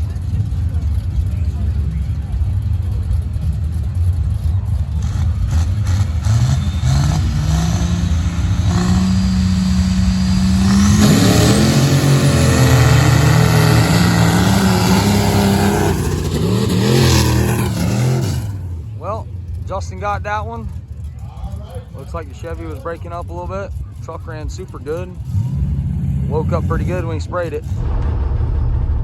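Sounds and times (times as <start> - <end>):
trucks racing at full throttle: 0.0 - 28.2.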